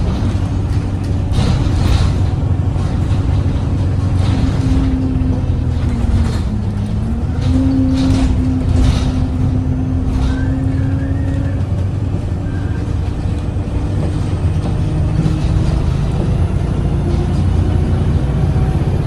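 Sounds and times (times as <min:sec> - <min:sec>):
brief rattles: 0:00.0 - 0:17.4
bus engine rumble and whine: 0:00.0 - 0:19.0.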